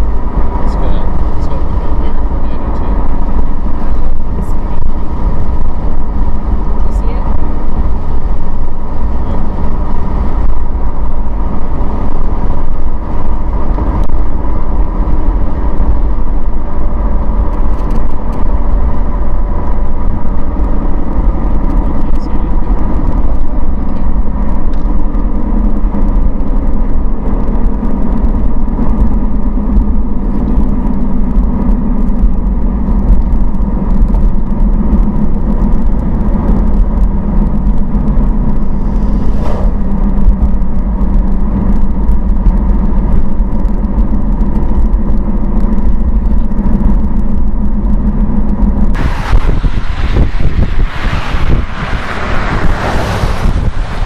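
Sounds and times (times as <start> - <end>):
car engine and road rumble: 0.0 - 54.0
steady hum: 0.0 - 54.0
wind noise on microphone: 0.0 - 54.0.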